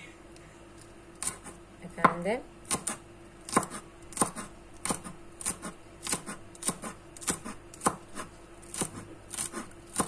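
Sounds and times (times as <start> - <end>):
knife chopping on cutting board: 1.2 - 10.0.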